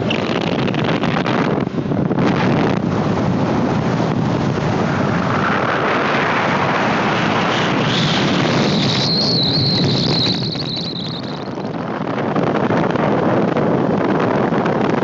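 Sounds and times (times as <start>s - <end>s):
high steady whine: 0.0s - 12.8s
motorcycle road noise: 0.0s - 15.0s
wind rushing over microphone: 0.0s - 15.0s.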